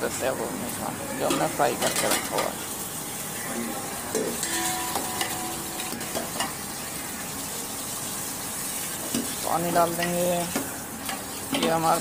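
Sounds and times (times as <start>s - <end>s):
meat sizzling in gravy: 0.0s - 12.0s.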